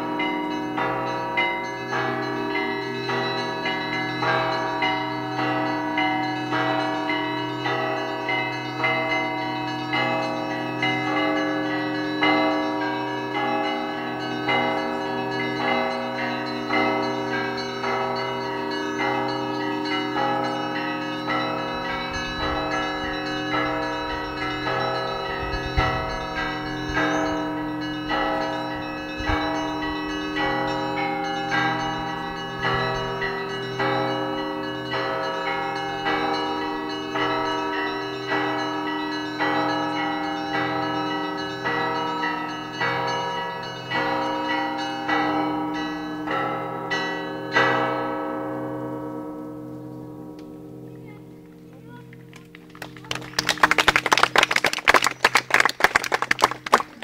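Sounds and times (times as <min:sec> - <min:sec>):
large low bell humming: 0:00.0 - 0:47.3
bells ringing in quick rhythm: 0:00.1 - 0:48.0.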